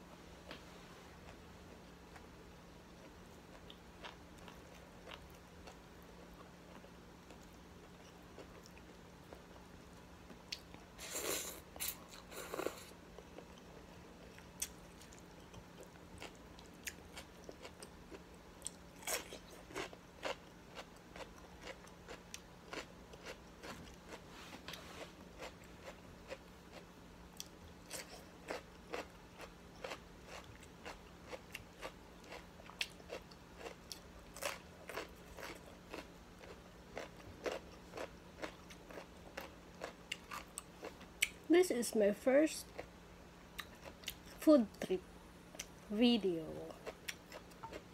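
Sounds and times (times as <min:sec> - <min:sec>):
faint low hum: 0:00.0 - 0:47.9
person chewing crunchy vegetables: 0:02.9 - 0:41.5, 0:42.6 - 0:44.4, 0:46.6 - 0:47.9.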